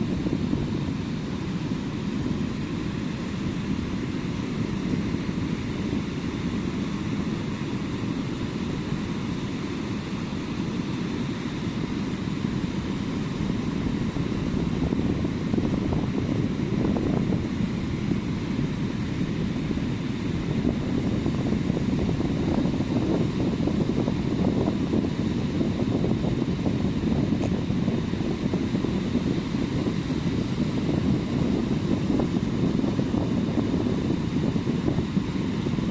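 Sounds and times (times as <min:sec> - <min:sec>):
wind rumble on microphone: 0:00.0 - 0:35.9.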